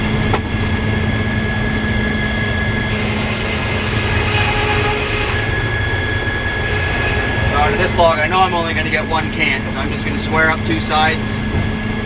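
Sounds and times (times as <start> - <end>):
sawmill humming with whine: 0.0 - 12.0.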